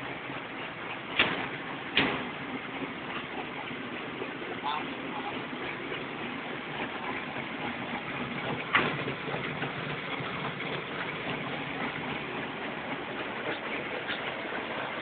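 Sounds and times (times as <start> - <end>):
machine hum and rattle: 0.0 - 15.0.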